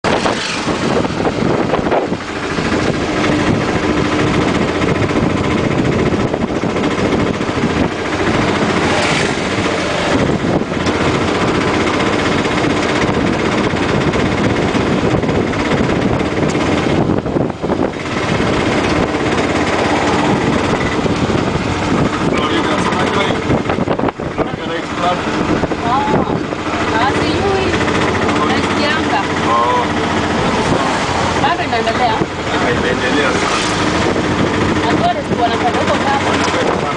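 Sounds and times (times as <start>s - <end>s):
road noise: 0.0s - 36.9s
wind: 0.0s - 36.9s
small engine running: 0.1s - 36.9s.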